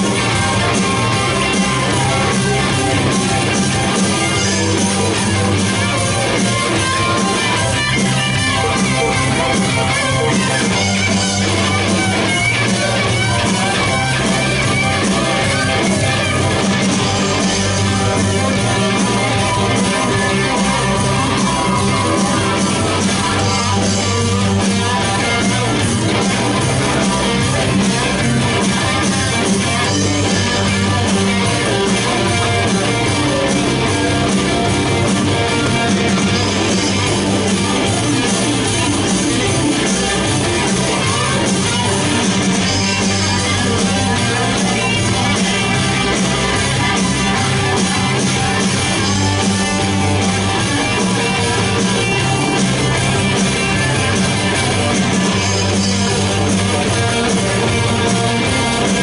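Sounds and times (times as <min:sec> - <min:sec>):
electric guitar: 0:00.0 - 0:59.0
live rock band playing: 0:00.0 - 0:59.0.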